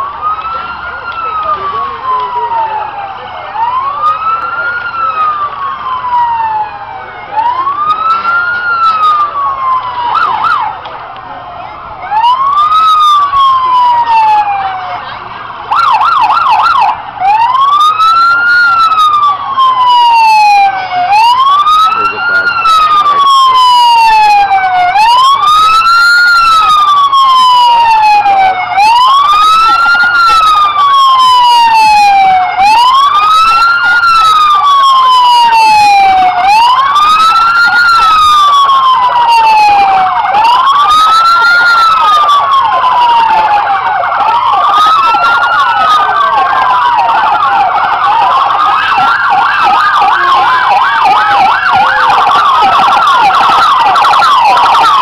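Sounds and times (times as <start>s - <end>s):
police siren wailing: 0.0s - 55.0s
second siren wailing: 0.0s - 55.0s.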